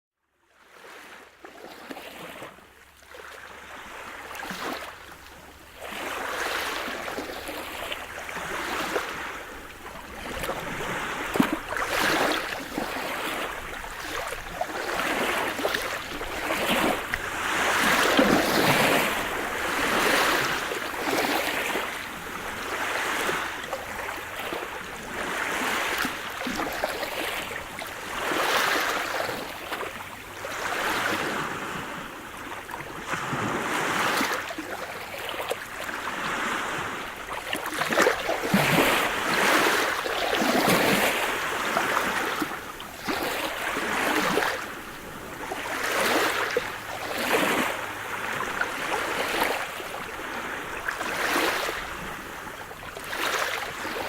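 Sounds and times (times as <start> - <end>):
waves breaking: 0.7 - 54.0.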